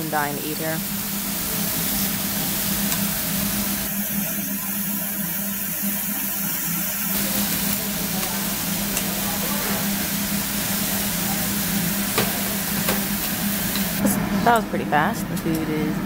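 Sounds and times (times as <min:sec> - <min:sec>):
meat sizzling on grill: 0:00.0 - 0:14.0.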